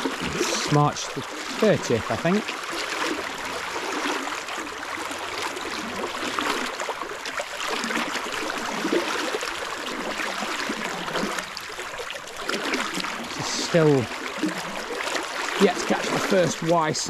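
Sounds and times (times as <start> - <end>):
river water rushing and gurgling: 0.0 - 17.0.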